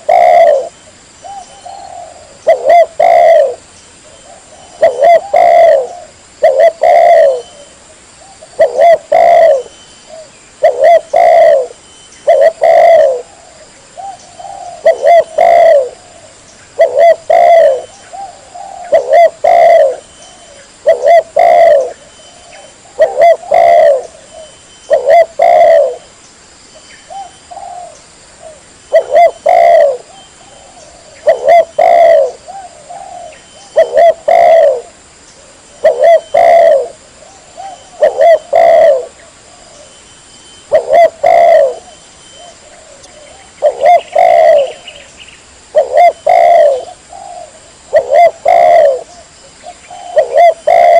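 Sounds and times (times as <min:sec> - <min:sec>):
dove cooing: 0:00.0 - 0:26.1, 0:27.1 - 0:40.0, 0:40.6 - 0:45.1, 0:45.7 - 0:50.9.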